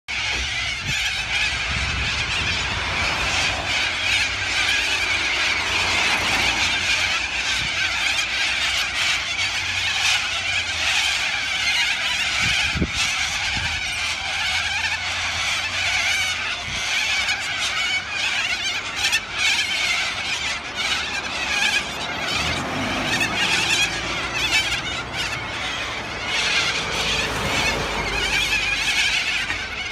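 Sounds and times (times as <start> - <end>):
cockatoos screeching: 0.1 - 29.9.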